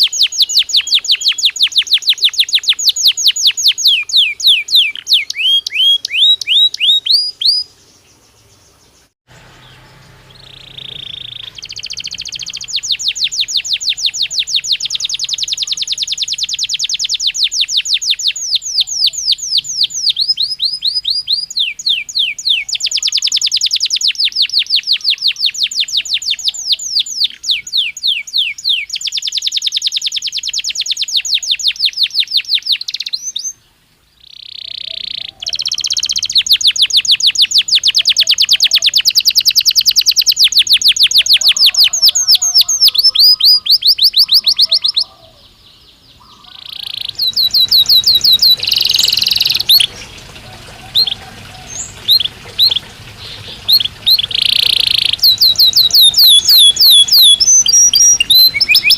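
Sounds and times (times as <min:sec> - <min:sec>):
canary singing trills: 0:00.0 - 0:33.6, 0:34.2 - 0:58.9.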